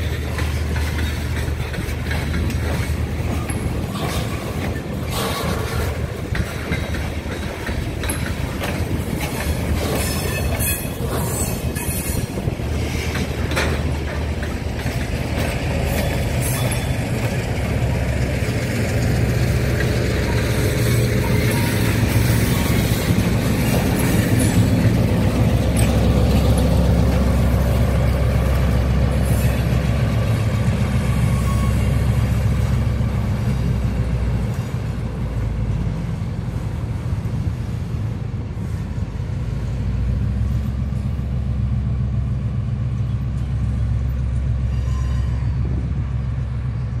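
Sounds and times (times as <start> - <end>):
diesel locomotive engine drone: 0.0 - 47.0
rolling train wheels: 0.0 - 47.0.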